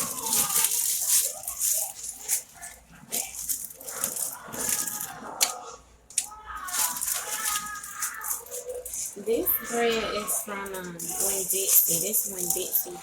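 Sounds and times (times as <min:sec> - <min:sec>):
kitchen items rattling and clinking: 0:00.0 - 0:13.0.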